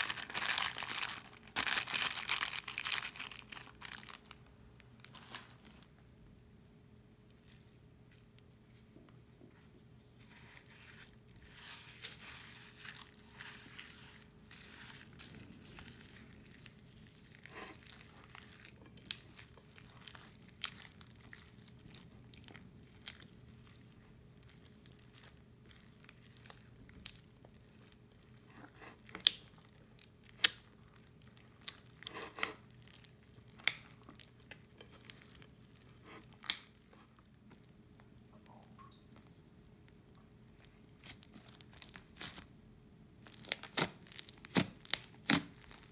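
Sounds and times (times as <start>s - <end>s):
crunchy slime crackling: 0.0s - 6.0s, 11.4s - 37.7s, 40.5s - 42.5s, 43.2s - 45.9s.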